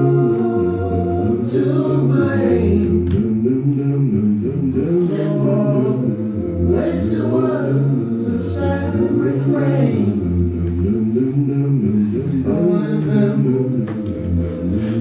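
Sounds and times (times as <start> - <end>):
voices singing a cappella: 0.0 - 15.0.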